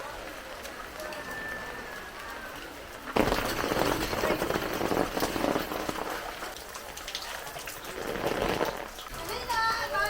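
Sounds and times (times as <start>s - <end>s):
heavy rain on hard surface: 0.0s - 10.0s.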